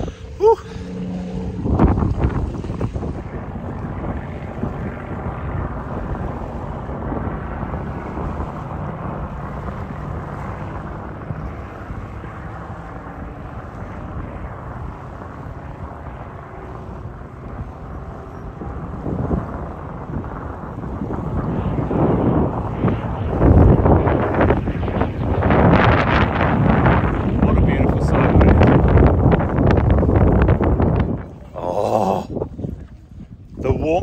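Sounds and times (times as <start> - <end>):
aircraft piston engine rumble: 0.0 - 34.0
wind on microphone: 0.0 - 34.0.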